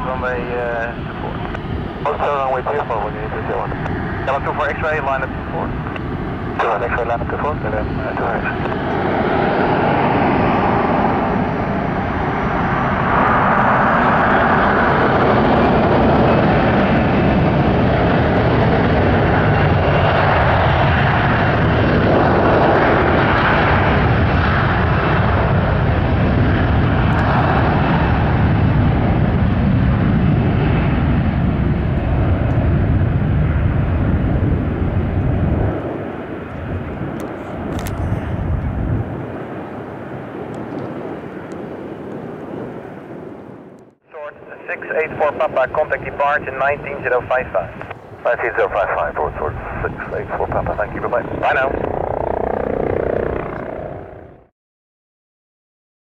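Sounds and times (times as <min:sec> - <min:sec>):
jet engines roaring at takeoff: 0:00.0 - 0:54.5.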